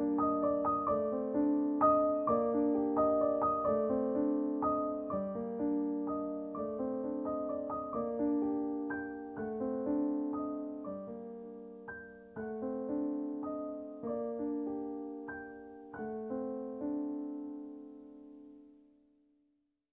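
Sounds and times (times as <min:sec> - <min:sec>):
slow solo piano piece: 0:00.0 - 0:19.0.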